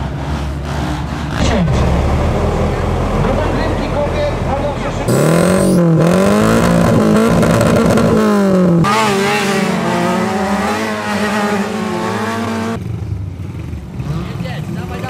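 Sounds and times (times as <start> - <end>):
car engine revving: 0.0 - 12.9
racing car engines at high revs: 0.0 - 15.0.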